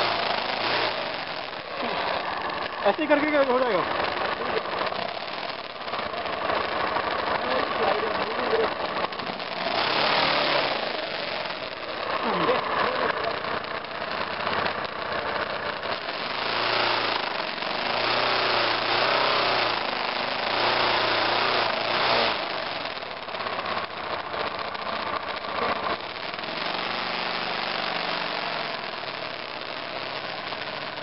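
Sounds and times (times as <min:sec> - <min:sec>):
motorcycle engine running: 0:00.0 - 0:31.0
road noise: 0:00.0 - 0:31.0.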